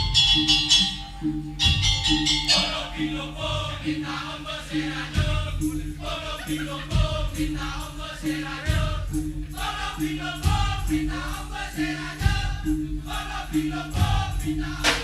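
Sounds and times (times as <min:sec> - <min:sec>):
repeated bass tones: 0:00.0 - 0:15.0
voices: 0:00.0 - 0:15.0
wavering melody: 0:00.0 - 0:15.0.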